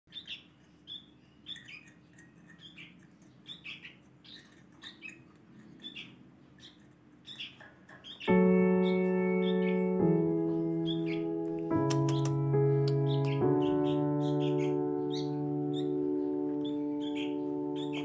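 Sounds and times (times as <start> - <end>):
bird chick begging chirps: 0.1 - 18.0.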